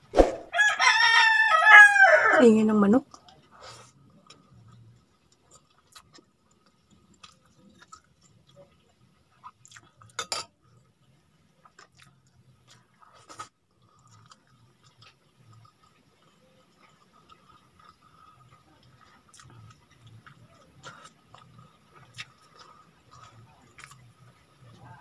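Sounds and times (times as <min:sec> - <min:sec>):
chewing and wet mouth sounds: 0:03.1 - 0:25.0.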